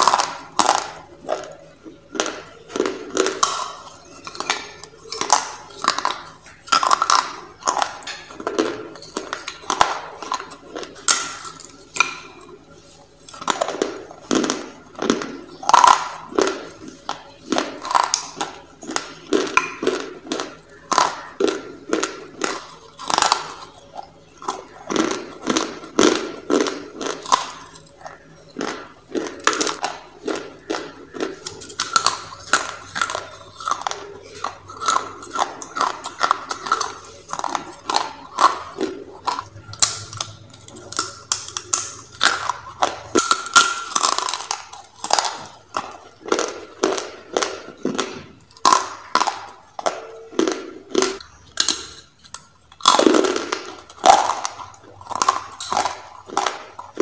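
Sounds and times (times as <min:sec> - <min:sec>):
dry clay crunching when chewed: 0:00.0 - 0:57.0.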